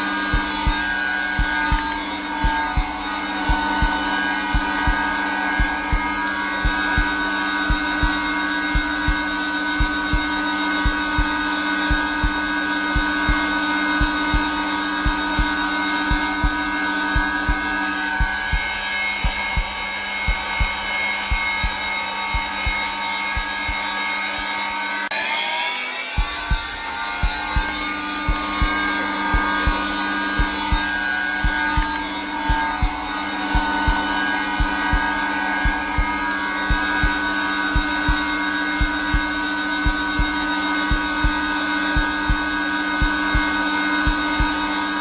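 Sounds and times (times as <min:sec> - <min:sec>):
heartbeat thumping: 0:00.0 - 0:24.7, 0:26.2 - 0:44.9
vacuum cleaner motor whine: 0:00.0 - 0:45.0.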